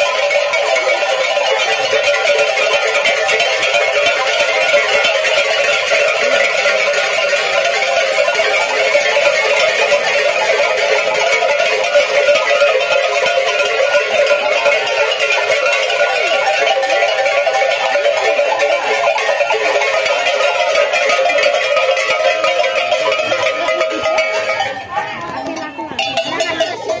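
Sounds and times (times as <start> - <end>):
metal cowbells clanking: 0.0 - 27.0.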